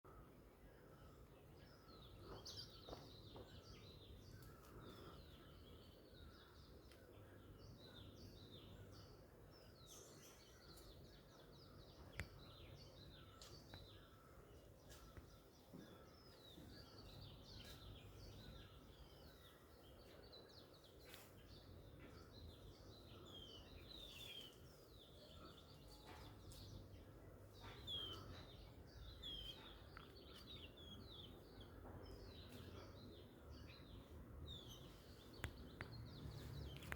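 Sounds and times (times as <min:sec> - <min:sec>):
small birds chirping: 0:00.1 - 0:36.9.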